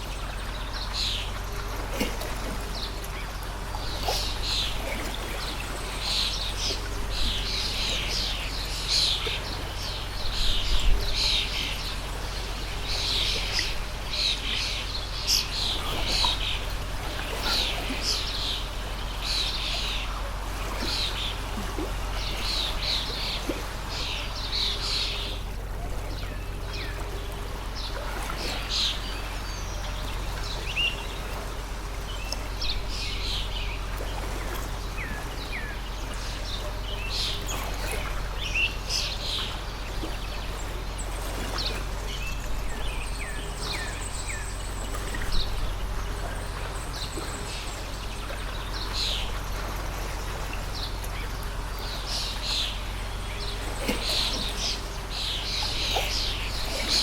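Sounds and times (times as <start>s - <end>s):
small birds chirping: 0.0s - 57.0s
water stream rushing: 0.0s - 57.0s.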